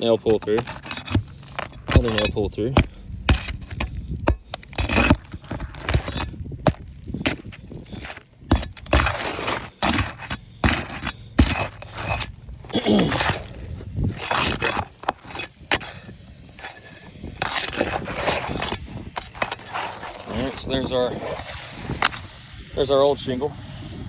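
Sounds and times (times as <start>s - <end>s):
shingle crackling and scraping: 0.0s - 23.0s.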